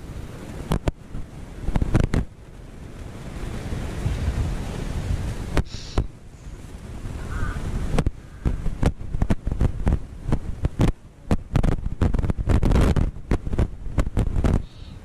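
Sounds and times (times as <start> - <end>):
surf washing onto beach: 0.0 - 15.0
wind rumbling on microphone: 0.0 - 15.0.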